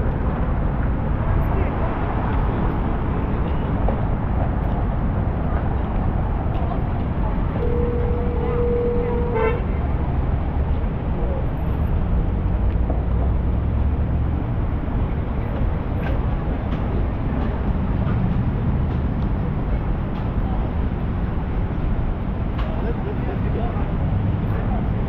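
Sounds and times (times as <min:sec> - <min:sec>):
city traffic rumble: 0:00.0 - 0:25.0.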